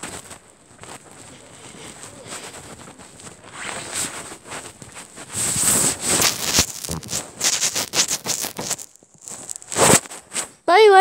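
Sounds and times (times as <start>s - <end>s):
rustling and scuffing: 0.0s - 10.6s.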